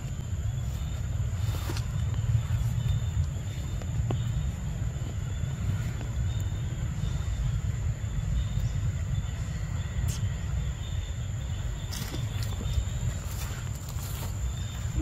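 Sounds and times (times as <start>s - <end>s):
wind buffeting the microphone: 0.0s - 15.0s.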